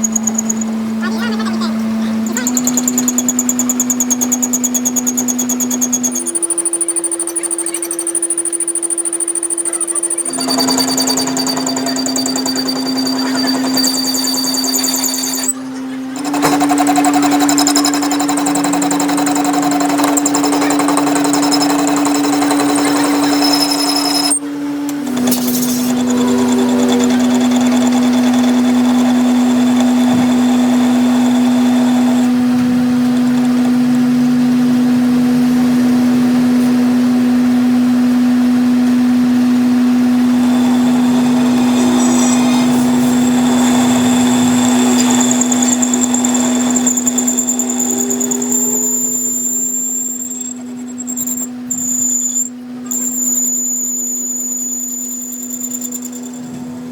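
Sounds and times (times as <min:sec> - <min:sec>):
metal lathe humming: 0:00.0 - 0:56.9.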